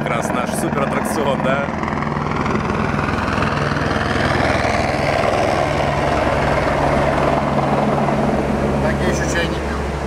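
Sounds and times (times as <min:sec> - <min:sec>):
helicopter rotor chop: 0:00.0 - 0:10.0.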